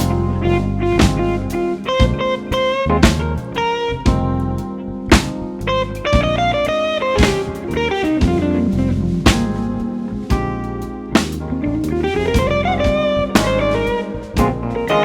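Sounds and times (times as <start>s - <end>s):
bass guitar: 0.0s - 15.0s
drum kit: 0.0s - 15.0s
electric guitar solo: 0.0s - 15.0s.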